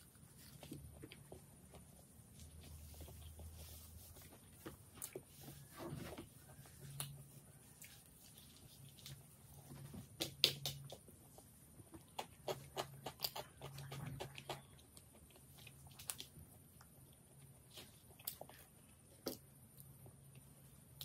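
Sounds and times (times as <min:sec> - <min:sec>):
chewing with wet clicks and smacks: 0:00.0 - 0:05.6, 0:06.5 - 0:09.3, 0:10.1 - 0:21.0.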